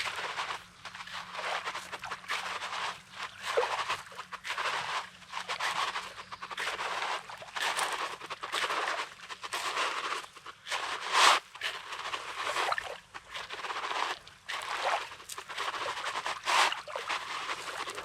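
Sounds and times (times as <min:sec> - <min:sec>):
footsteps crunching on pebbly sand: 0:00.0 - 0:18.0.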